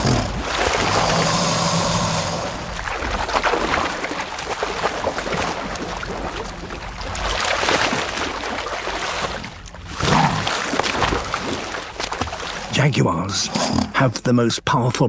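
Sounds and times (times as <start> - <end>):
river water splashing: 0.0 - 13.8.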